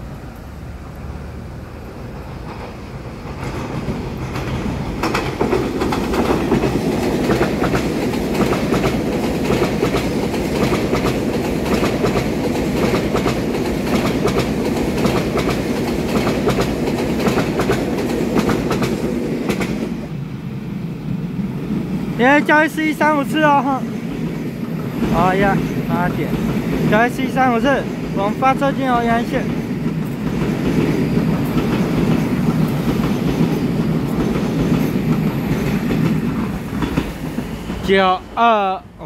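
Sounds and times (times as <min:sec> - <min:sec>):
train passing rumble: 0:00.0 - 0:39.0
wheels clicking over rail joints: 0:01.8 - 0:20.0, 0:24.1 - 0:37.9.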